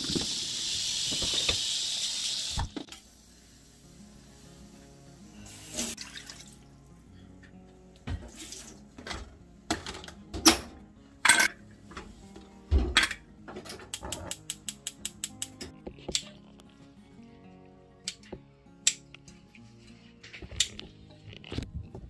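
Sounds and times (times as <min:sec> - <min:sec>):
background music: 0:02.8 - 0:22.0.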